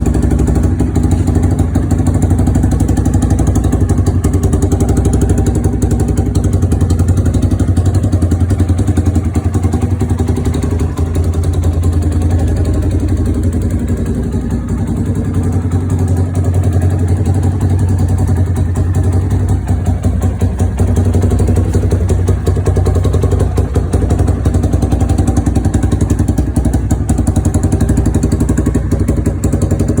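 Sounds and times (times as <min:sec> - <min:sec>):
dirt bike engine idling: 0:00.0 - 0:30.0.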